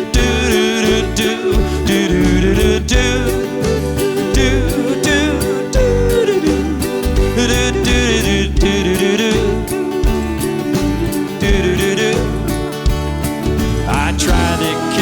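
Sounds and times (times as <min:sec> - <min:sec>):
live country band playing: 0:00.0 - 0:15.0
person singing: 0:00.0 - 0:15.0.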